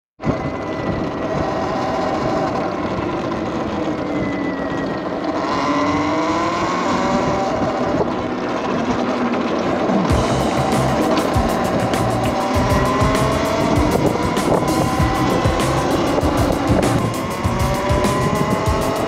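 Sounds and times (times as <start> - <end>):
electric motorbike motor whining: 0.2 - 19.0
wind noise: 0.2 - 19.0
tyre noise: 1.2 - 19.0.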